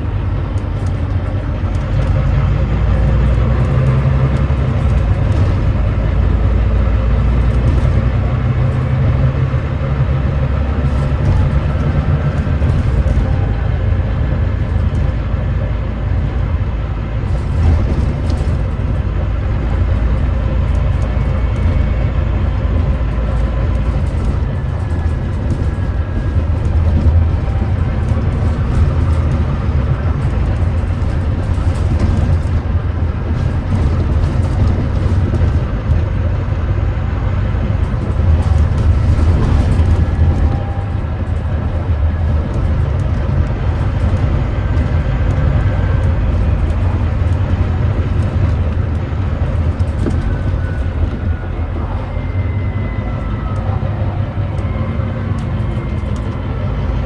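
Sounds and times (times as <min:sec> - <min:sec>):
rattles: 0:00.0 - 0:53.6
bus diesel engine rumbling: 0:00.0 - 0:57.0.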